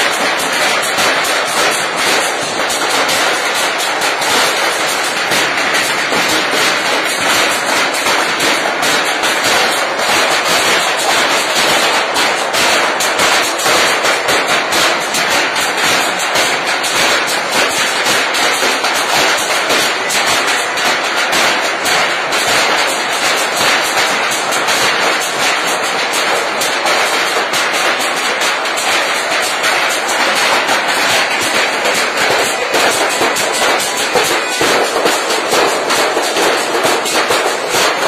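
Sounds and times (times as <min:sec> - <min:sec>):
people beating with sticks: 0:00.0 - 0:38.0.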